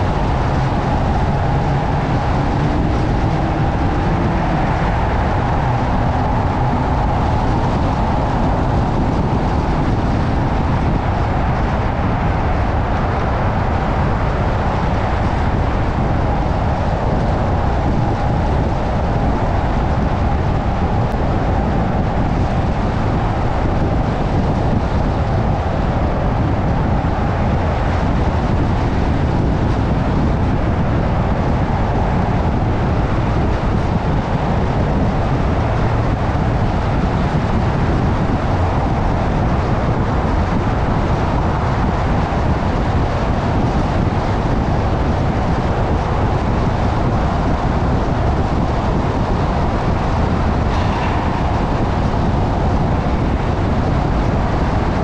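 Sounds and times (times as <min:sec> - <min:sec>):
car engine rumble: 0:00.0 - 0:55.0
road and tyre noise: 0:00.0 - 0:55.0.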